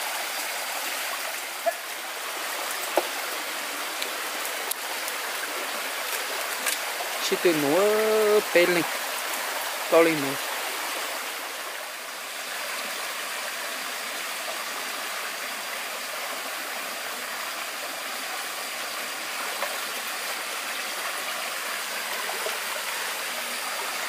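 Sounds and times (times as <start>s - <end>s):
stream rushing over stones: 0.0s - 24.0s.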